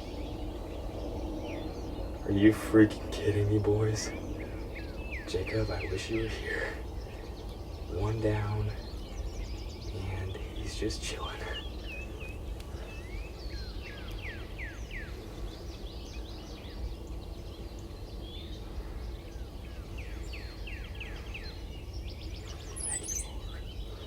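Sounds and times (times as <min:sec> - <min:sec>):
low outdoor rumble: 0:00.0 - 0:24.0
songbirds whistling: 0:00.0 - 0:24.0.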